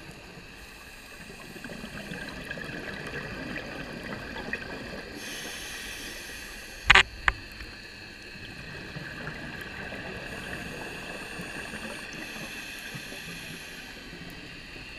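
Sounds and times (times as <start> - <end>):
muffled underwater hiss: 0.0 - 14.9.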